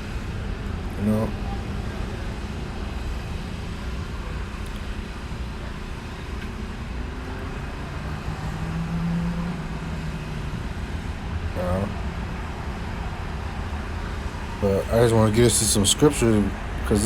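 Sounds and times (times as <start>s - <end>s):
low rumble of traffic: 0.0s - 17.0s
steady low hum: 0.0s - 17.0s.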